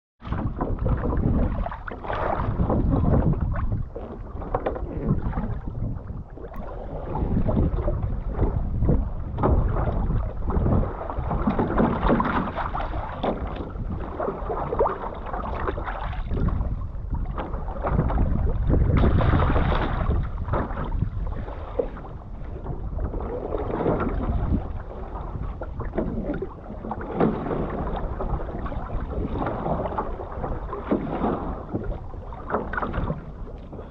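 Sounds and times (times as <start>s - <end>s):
water lapping against hull: 0.2s - 33.9s
wind buffeting microphone: 0.2s - 33.9s.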